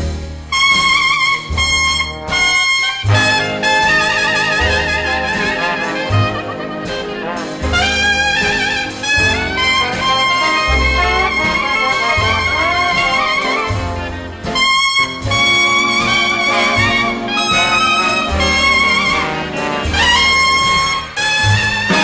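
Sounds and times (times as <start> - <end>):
jazz music: 0.0 - 22.0
brass horn long wavering notes: 0.5 - 22.0.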